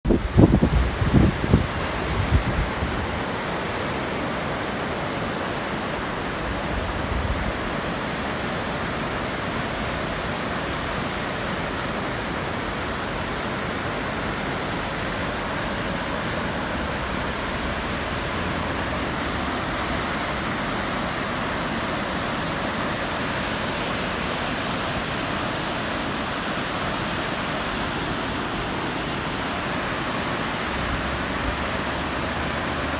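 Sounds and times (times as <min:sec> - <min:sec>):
river rushing: 0:00.1 - 0:32.9.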